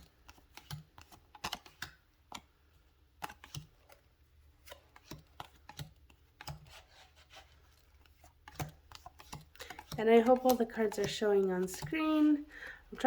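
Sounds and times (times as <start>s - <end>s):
cards being flipped: 0.0s - 10.5s.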